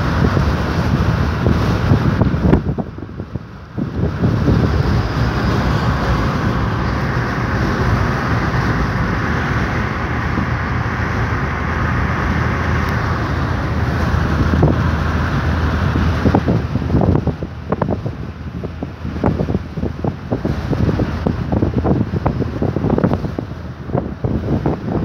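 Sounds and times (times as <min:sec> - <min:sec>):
car road and wind noise: 0:00.0 - 0:25.0
low rumble: 0:00.0 - 0:25.0.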